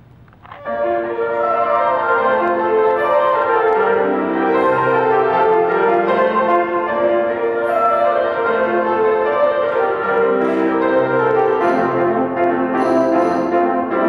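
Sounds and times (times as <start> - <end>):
chamber orchestra playing: 0.5 - 14.0.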